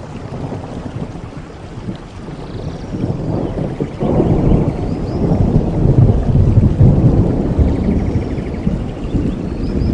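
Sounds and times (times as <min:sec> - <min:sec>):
rolling thunder rumble: 0:00.0 - 0:09.9
steady rain: 0:00.0 - 0:09.9.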